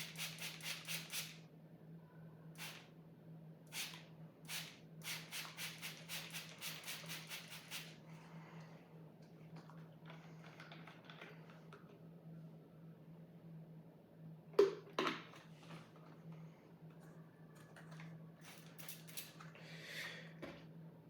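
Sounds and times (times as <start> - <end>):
steady low hum: 1.2 - 21.0.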